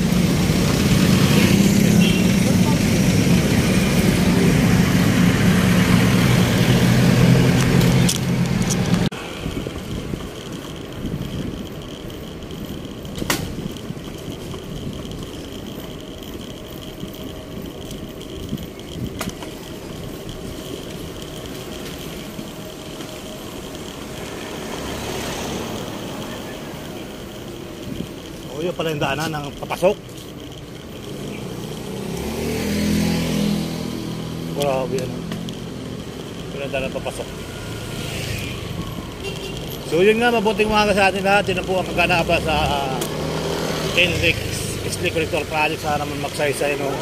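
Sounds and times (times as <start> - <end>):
loud low vehicle engine: 0.0 - 47.0
steady traffic hum: 0.0 - 47.0
sharp clicks: 7.4 - 46.8.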